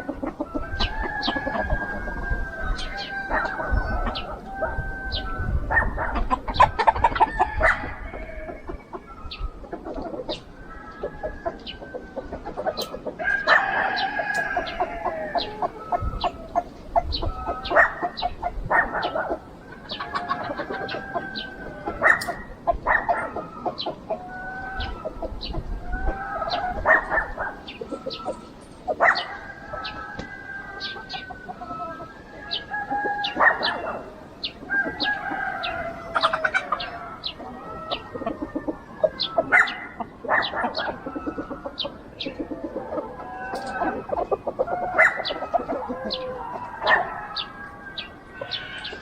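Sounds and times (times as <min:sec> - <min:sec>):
rooster crowing: 0:00.0 - 0:09.5, 0:10.5 - 0:49.0
chickens clucking: 0:00.0 - 0:49.0.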